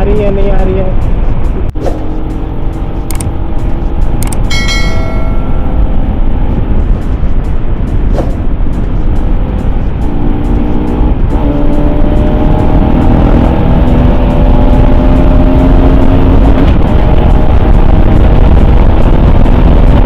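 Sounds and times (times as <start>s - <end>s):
wind rumble on microphone: 0.0s - 20.0s
motorcycle engine accelerating: 1.1s - 20.0s.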